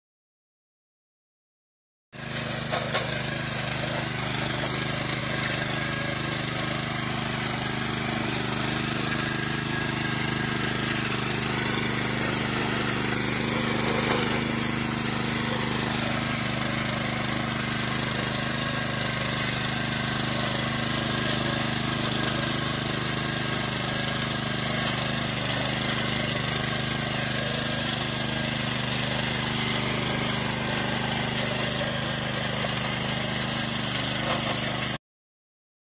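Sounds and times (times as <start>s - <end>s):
tiller engine running: 2.2s - 35.0s
tines churning soil: 2.2s - 35.0s.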